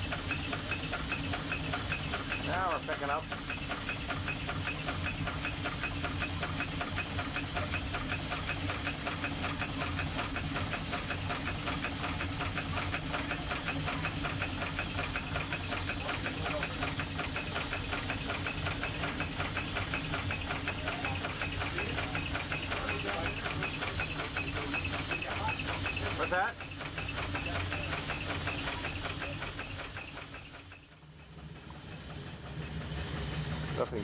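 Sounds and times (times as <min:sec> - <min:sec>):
steam engine beating: 0:00.0 - 0:34.0.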